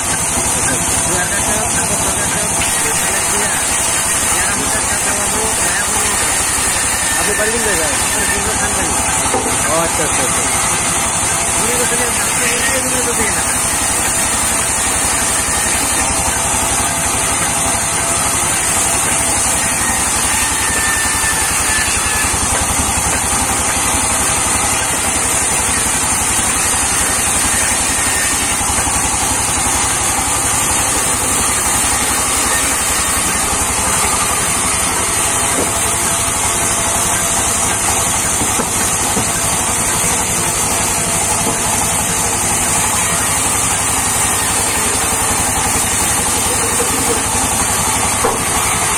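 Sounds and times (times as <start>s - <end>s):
band saw cutting logs: 0.0s - 48.9s.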